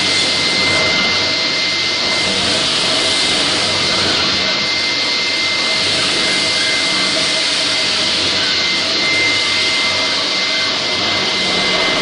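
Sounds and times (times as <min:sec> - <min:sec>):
floor grinder grinding concrete: 0:00.0 - 0:12.0.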